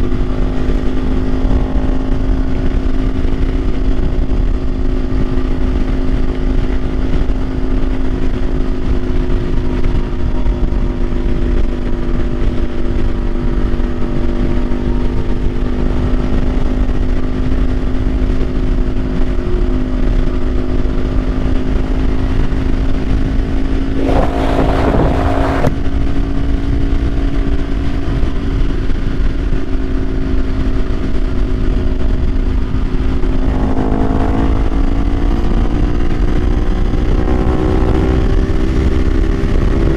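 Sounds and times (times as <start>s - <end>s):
motorcycle engine cruising: 0.0s - 39.9s
wind rumble on microphone: 0.0s - 39.9s.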